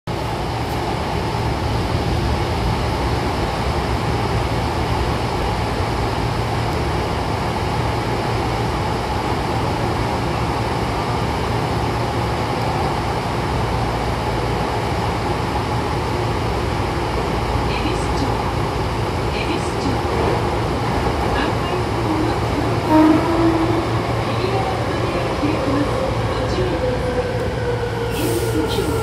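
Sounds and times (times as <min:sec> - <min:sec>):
train wheels rumbling in tunnel: 0:00.1 - 0:29.0.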